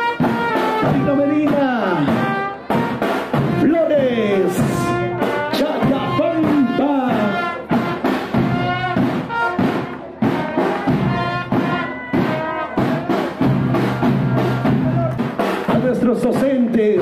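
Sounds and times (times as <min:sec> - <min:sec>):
brass band playing a march: 0:00.0 - 0:16.3
snare and bass drum strokes: 0:00.0 - 0:17.0.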